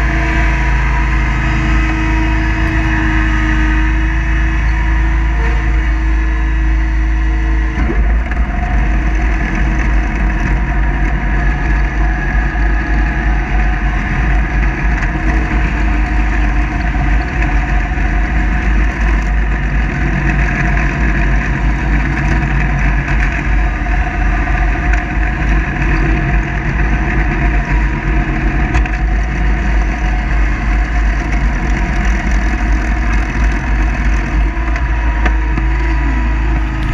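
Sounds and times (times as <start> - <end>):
mower engine and blades droning: 0.0 - 36.9.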